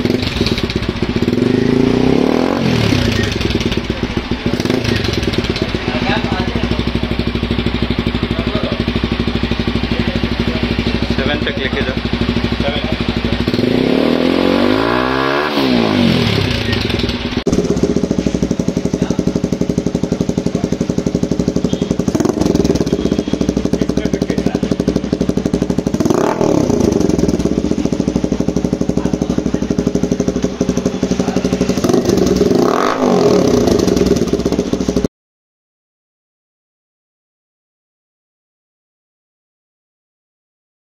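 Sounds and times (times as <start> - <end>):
motorcycle engine idling and revving: 0.0 - 35.1.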